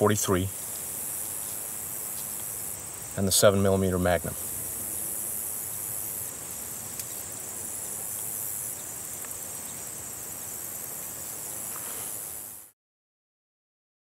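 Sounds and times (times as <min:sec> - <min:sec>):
insects chirring: 0:00.0 - 0:12.7.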